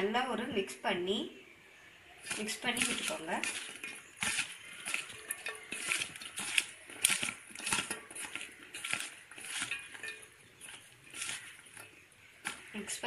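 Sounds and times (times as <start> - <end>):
rustling and scraping in a bowl: 2.2 - 13.0.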